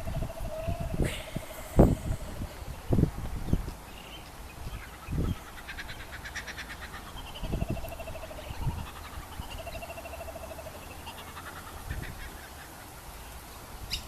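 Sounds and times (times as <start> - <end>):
nasal pulsing bird calls: 0.0 - 12.8.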